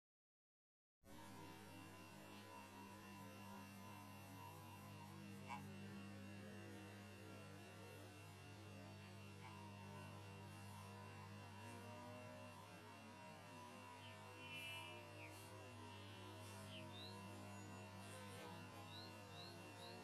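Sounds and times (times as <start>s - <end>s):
faint electrical hum: 1.1s - 20.0s.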